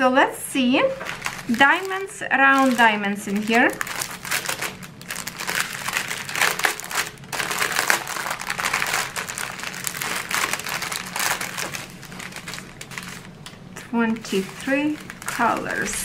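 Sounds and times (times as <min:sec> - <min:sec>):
plastic bags crinkling: 0:00.8 - 0:16.0.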